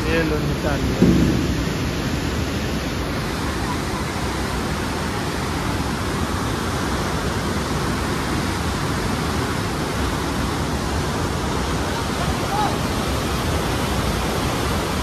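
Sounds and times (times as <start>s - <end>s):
floodwater rushing through gates: 0.0s - 15.0s.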